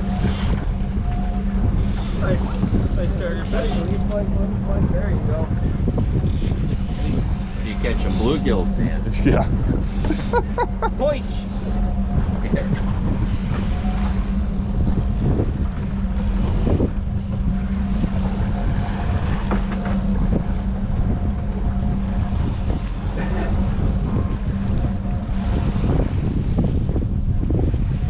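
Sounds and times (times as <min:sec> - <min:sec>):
boat engine running: 0:00.0 - 0:28.0
wind gusting on microphone: 0:00.0 - 0:28.0.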